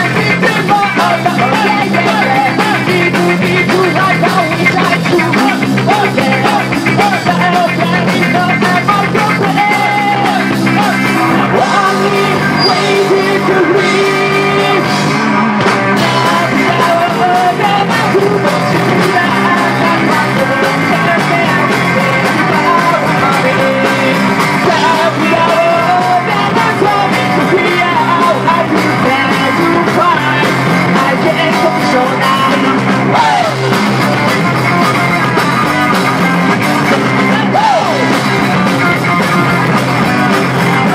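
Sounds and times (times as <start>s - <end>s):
man singing: 0.0s - 33.8s, 36.8s - 38.8s, 39.4s - 40.9s
rock band playing: 0.0s - 40.9s.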